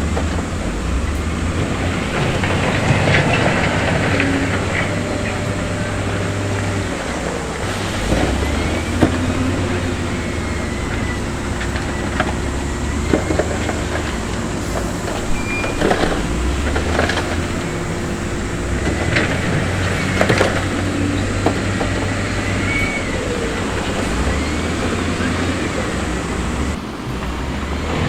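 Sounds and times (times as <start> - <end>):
diesel construction machinery running: 0.0 - 28.0.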